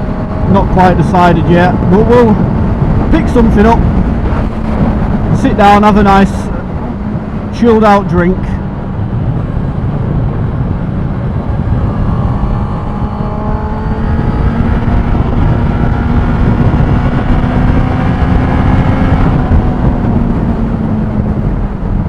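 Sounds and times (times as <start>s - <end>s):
motorcycle engine cruising: 0.0s - 22.0s
road and wind noise: 0.0s - 22.0s.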